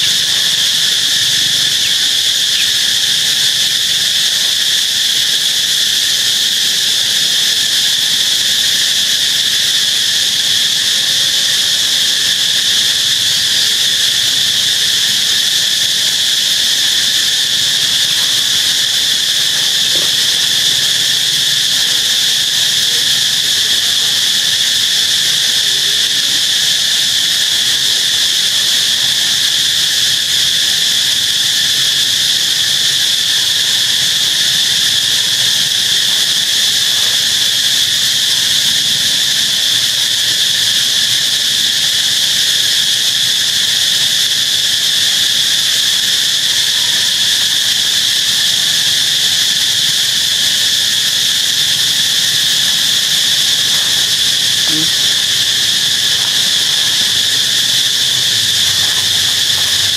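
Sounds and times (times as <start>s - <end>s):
insects chorus shrill drone: 0.0s - 59.9s.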